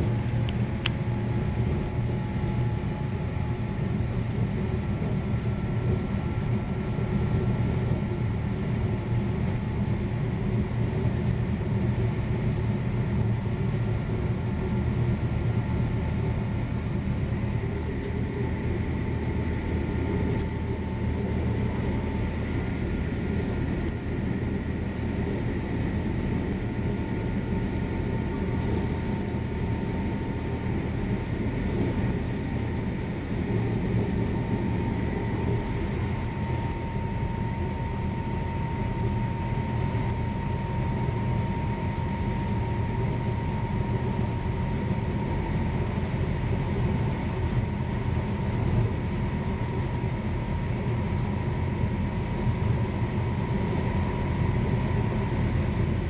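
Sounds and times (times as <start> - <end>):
faint steady whines: 0.0 - 56.0
train low rumble: 0.0 - 56.0.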